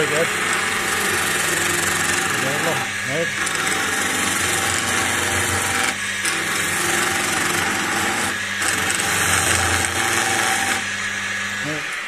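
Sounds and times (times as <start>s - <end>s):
chisel cutting spinning wood: 0.0s - 12.0s
lathe motor hum: 0.0s - 12.0s.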